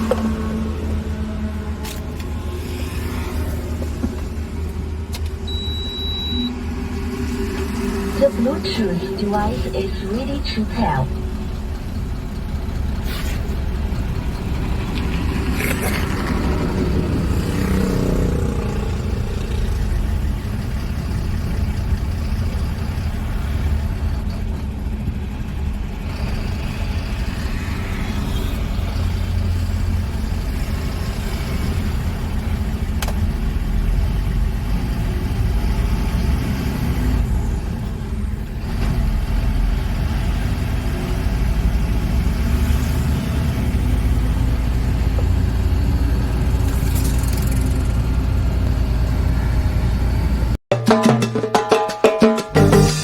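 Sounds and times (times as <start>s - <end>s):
truck diesel engine rumbling: 0.0s - 50.6s.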